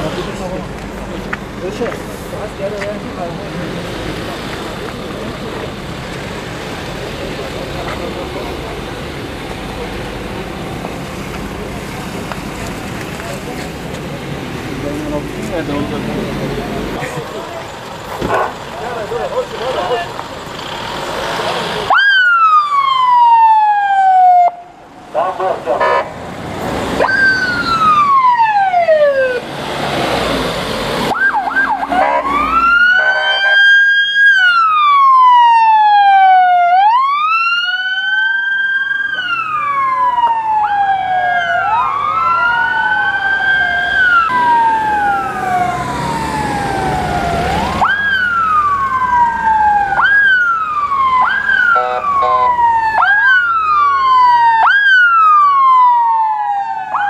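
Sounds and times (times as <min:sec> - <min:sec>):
ambulance sirens wailing: 0:00.0 - 0:57.0.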